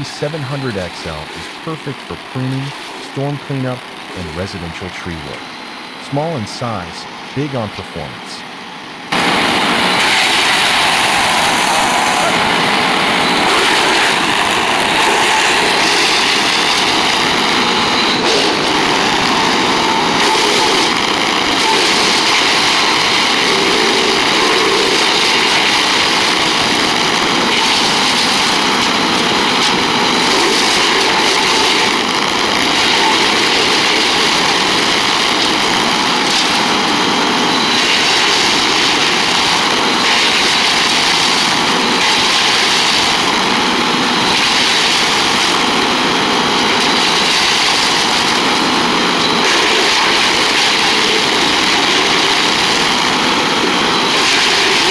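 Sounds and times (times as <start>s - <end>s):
wood chipper running: 0.0s - 54.9s.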